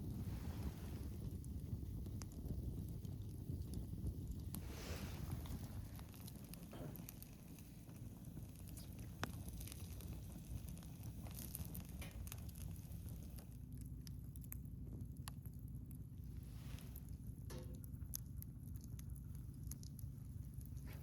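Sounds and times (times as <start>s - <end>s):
campfire crackling: 0.0s - 21.0s
fire pops and clicks: 0.0s - 21.0s
low rumble: 0.0s - 21.0s.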